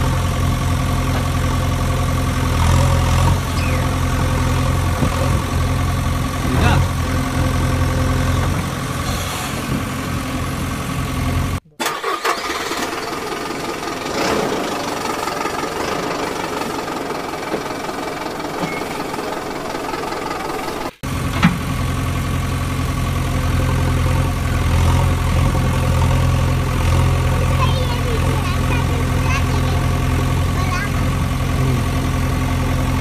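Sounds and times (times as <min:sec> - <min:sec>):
engine idling hum: 0:00.0 - 0:33.0.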